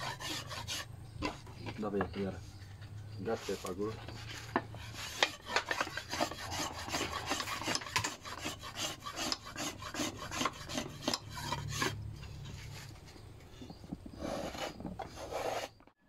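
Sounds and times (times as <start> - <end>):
hand tool rasping wood: 0.0 - 15.8.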